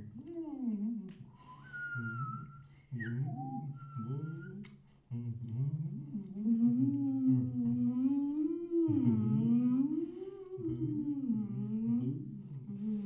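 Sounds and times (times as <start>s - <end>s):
people humming wavering notes: 0.0s - 4.6s, 5.2s - 13.0s.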